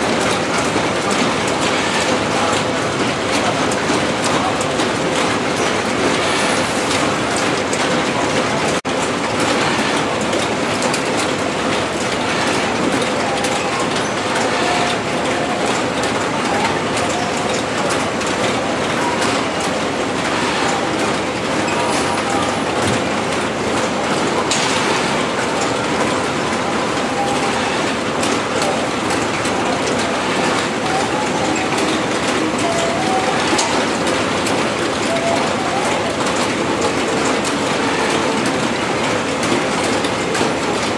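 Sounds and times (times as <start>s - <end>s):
conveyor machine clattering: 0.0s - 40.9s.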